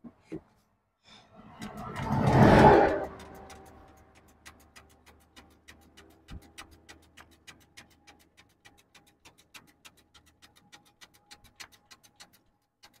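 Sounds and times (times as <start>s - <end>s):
fuel pump ticking: 1.6s - 13.0s.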